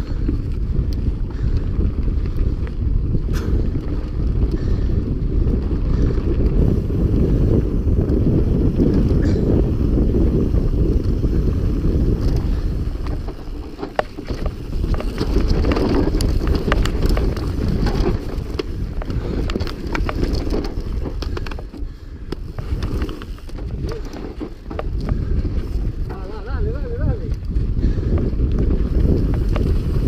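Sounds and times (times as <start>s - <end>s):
bike rattling over rough ground: 0.0s - 30.0s
wind buffeting microphone: 0.0s - 30.0s.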